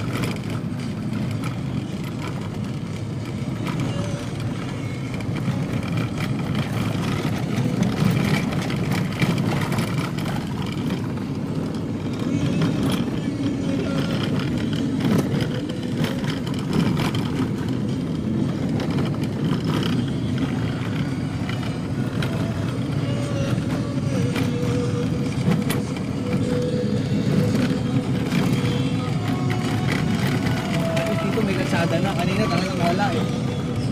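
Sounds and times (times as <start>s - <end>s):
vehicle engine and tyres rumbling: 0.0s - 33.9s.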